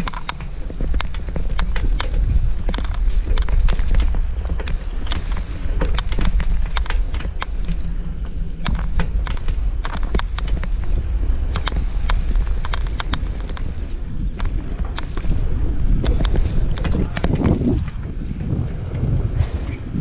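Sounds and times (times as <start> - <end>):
bicycle clicks and rattles: 0.0 - 20.0
loud low rumble: 0.0 - 20.0
wind buffeting microphone: 0.0 - 20.0.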